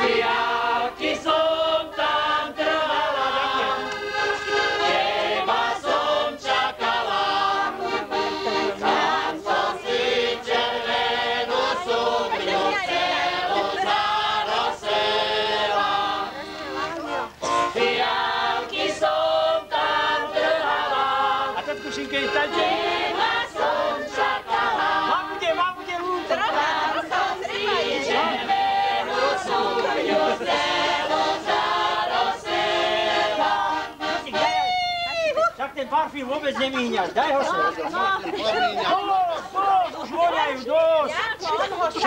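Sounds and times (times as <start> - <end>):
group singing folk song: 0.0 - 35.1, 36.1 - 42.0.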